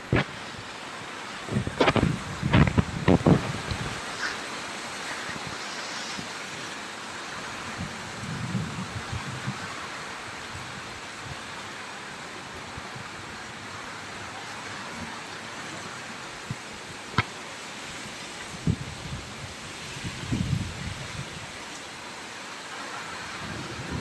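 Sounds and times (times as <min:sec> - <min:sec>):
steady rain hissing: 0:00.0 - 0:24.0.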